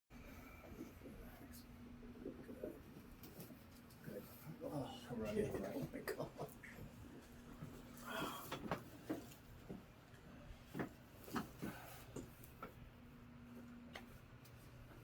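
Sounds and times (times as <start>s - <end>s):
faint steady hum: 0.1s - 15.0s.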